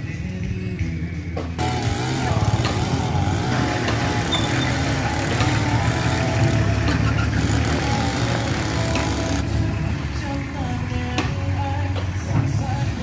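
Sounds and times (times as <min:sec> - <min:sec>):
bulldozer engine humming low: 0:00.8 - 0:13.0
bulldozer clanks: 0:01.4 - 0:13.0.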